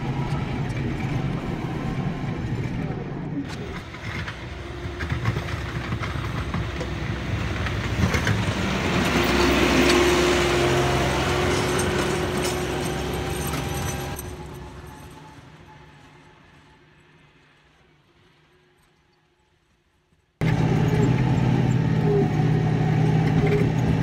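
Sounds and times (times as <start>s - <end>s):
tractor engine driving past: 0.0s - 17.8s, 20.4s - 24.0s.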